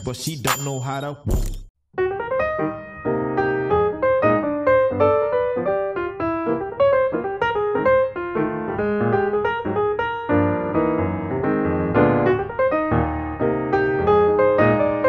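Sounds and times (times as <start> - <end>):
piano tune with repeating bass: 2.0 - 15.0.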